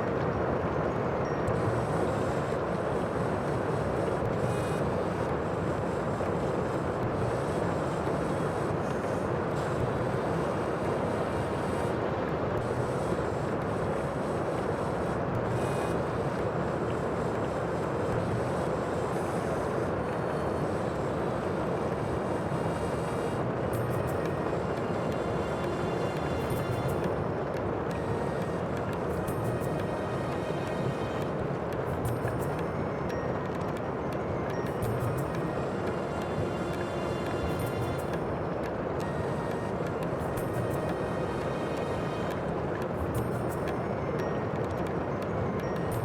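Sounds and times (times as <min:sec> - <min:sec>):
wind: 0:00.0 - 0:46.0.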